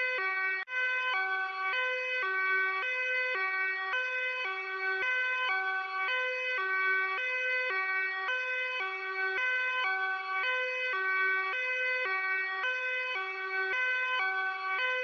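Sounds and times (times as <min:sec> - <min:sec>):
two-tone hi-lo siren: 0:00.0 - 0:15.0.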